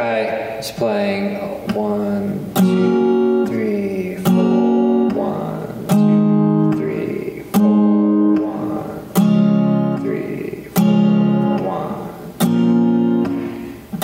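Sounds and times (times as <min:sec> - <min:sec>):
acoustic guitar strums: 0:00.4 - 0:14.0.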